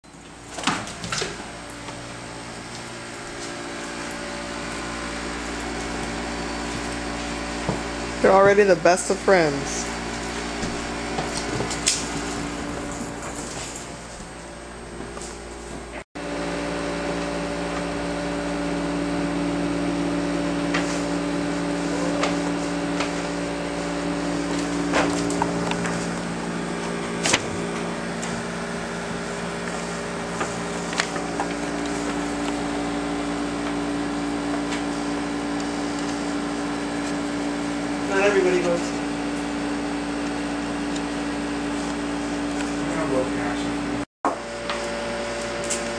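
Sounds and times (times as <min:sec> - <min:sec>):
steady appliance hum: 0:00.0 - 0:45.9.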